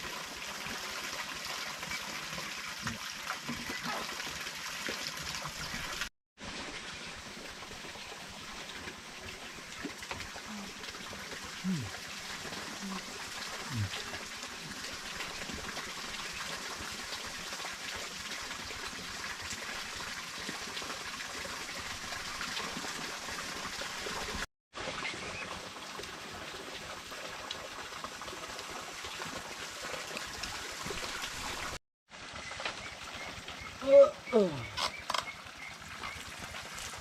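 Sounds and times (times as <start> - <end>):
running trickling water: 0.0 - 37.0.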